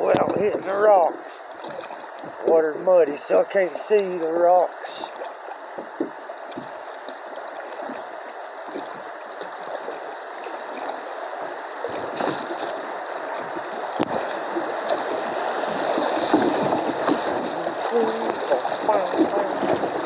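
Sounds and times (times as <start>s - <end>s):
water rushing over rapids: 0.0s - 20.0s.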